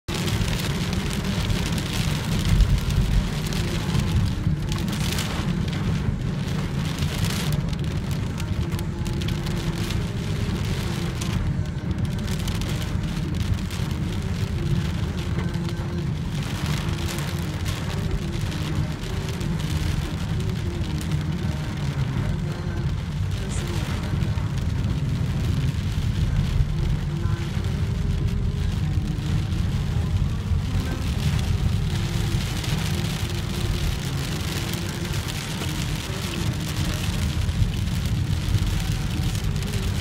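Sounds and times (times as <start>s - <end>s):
car rumbling on wet road: 0.0s - 40.0s
rain on a car: 0.0s - 40.0s.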